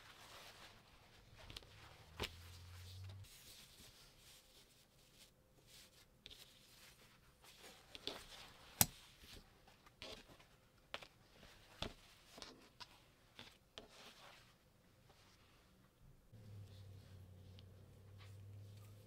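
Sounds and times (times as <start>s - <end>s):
soft rustling: 0.0s - 19.0s.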